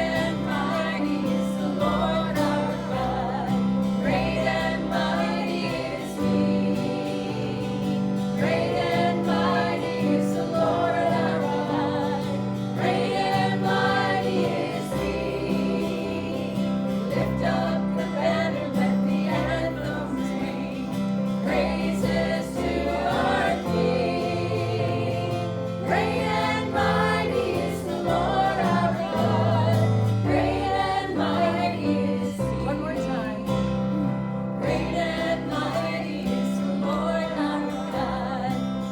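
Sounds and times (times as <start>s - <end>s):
gospel choir singing: 0.0s - 38.9s
instrumental accompaniment with bass: 0.0s - 38.9s.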